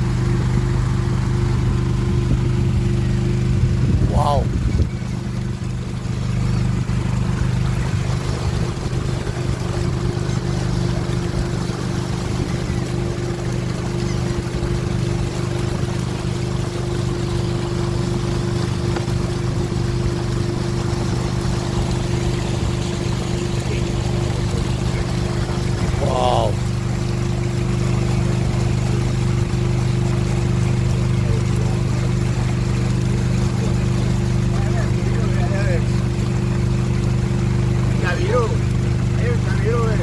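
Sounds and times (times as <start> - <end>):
motorboat engine running: 0.0 - 40.0
water rushing past hull: 0.0 - 40.0.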